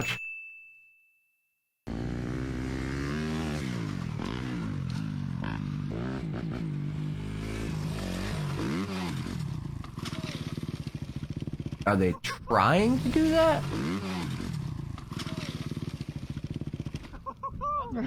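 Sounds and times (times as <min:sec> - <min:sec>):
dirt bike engine revving: 0:01.9 - 0:17.2.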